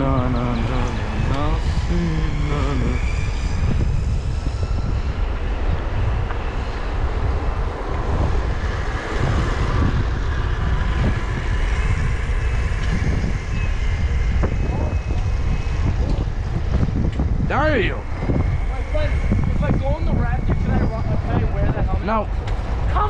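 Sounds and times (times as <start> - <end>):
wind buffeting microphone: 0.0 - 23.0
wheels rolling on asphalt: 3.2 - 23.0.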